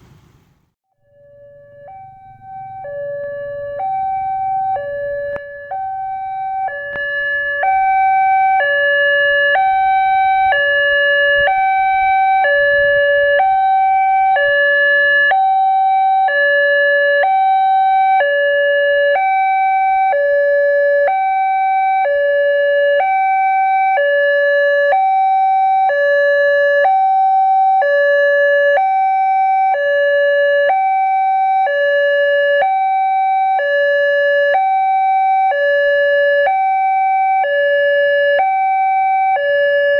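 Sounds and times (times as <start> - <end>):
two-tone crossing alarm: 0.9 - 39.9.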